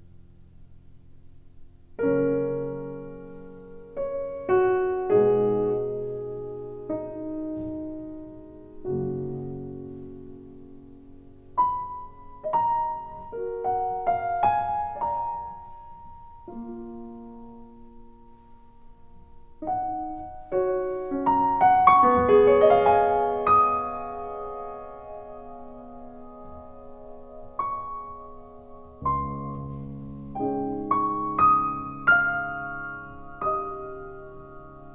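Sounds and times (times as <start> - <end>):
gentle solo piano music: 1.9 - 34.9.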